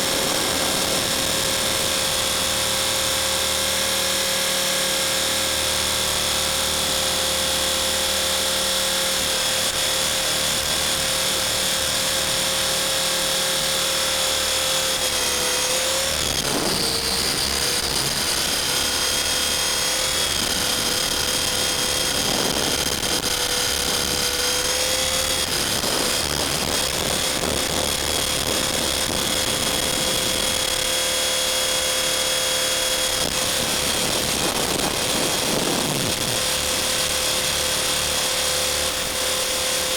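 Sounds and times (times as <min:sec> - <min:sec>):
electric motor high whine: 0:00.0 - 0:39.9
helicopter rotor noise: 0:00.0 - 0:39.9.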